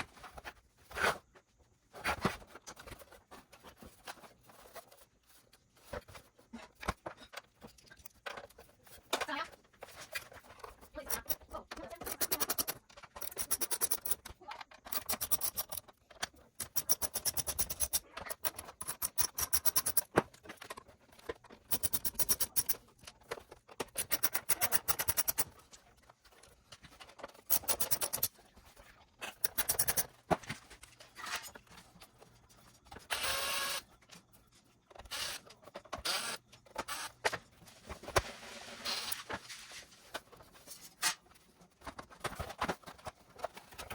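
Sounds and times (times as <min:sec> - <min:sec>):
clicking and scraping on console: 0:00.0 - 0:43.9.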